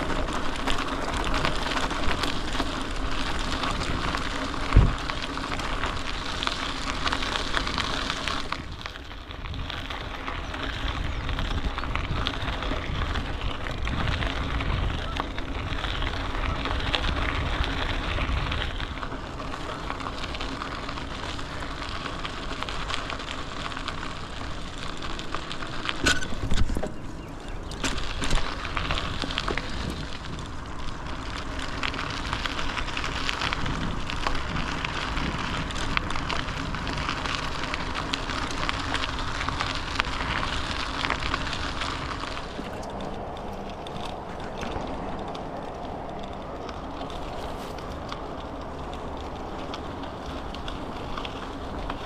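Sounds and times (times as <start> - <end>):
bicycle bumps: 0.0 - 52.0
bicycle tyres and wind rushing: 0.0 - 52.0.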